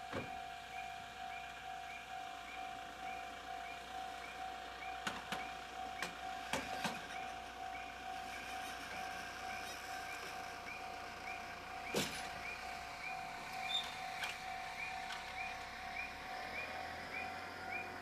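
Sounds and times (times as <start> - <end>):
level crossing warning bell ringing: 0.0 - 18.0.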